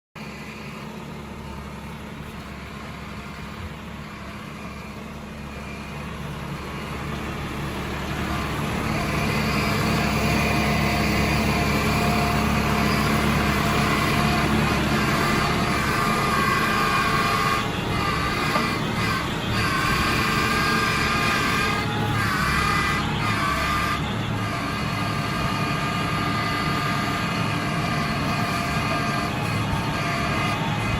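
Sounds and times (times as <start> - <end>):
tractor engine running: 0.2 - 30.9.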